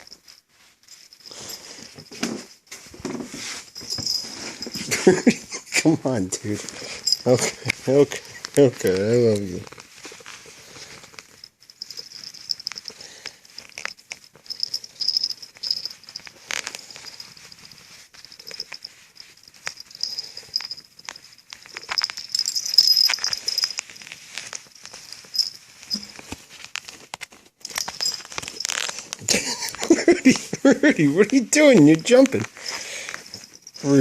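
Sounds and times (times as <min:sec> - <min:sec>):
rustling and crinkling handling: 0:00.0 - 0:34.0.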